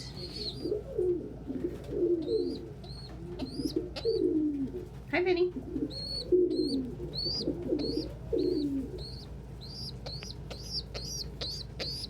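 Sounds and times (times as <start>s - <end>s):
pigeons cooing: 0.0s - 5.0s, 5.6s - 12.0s
young pigeons peeping: 0.0s - 12.0s.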